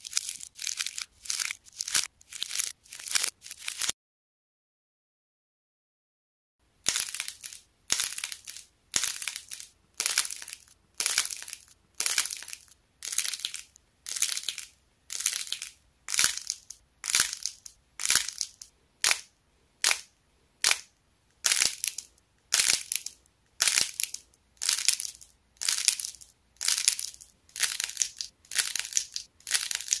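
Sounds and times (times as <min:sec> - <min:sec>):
hardened clay crackling and crunching: 0:00.0 - 0:03.9, 0:06.8 - 0:30.0.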